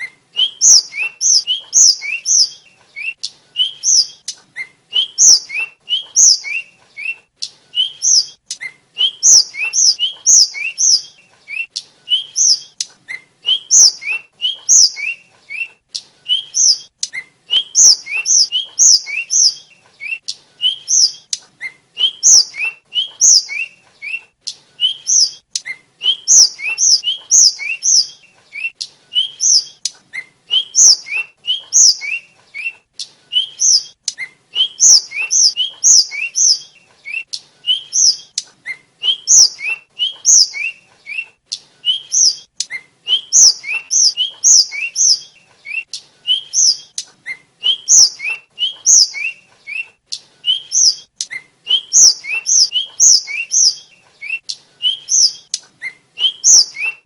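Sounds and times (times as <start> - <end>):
bird whistled song: 0.0 - 57.0.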